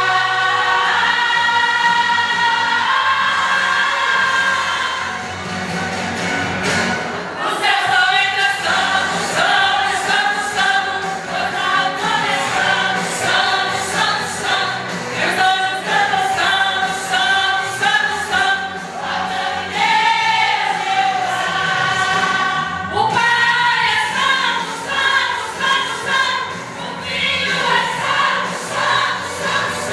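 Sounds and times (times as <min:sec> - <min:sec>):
vocal group singing a hymn: 0:00.0 - 0:05.5, 0:07.2 - 0:29.9
musical accompaniment with beat: 0:00.0 - 0:29.9.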